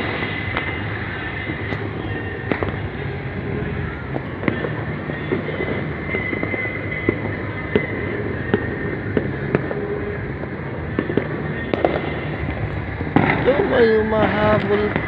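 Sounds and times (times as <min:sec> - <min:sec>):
distant fireworks bangs: 0:00.0 - 0:15.0
nearby firecracker pops: 0:00.0 - 0:15.0.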